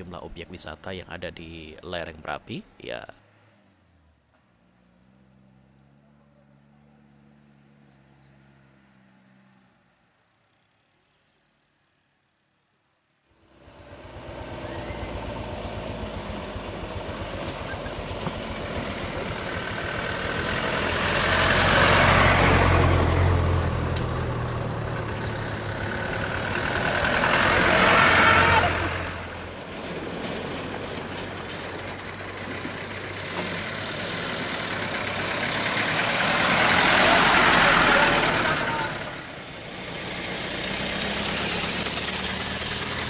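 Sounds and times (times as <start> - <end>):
vehicles driving past: 0.0 - 12.2, 13.2 - 43.0.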